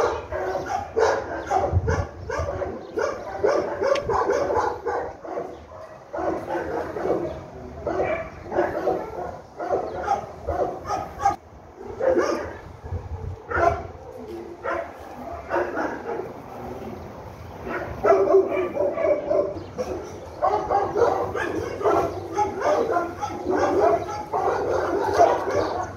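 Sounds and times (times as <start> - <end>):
dog barking and yipping: 0.0 - 16.4, 17.6 - 25.9.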